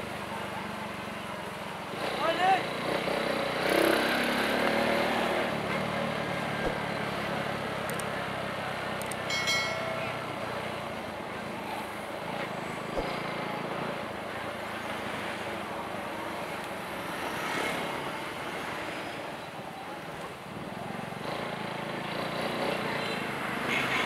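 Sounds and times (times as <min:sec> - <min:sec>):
passing vehicle engines: 0:00.0 - 0:24.0.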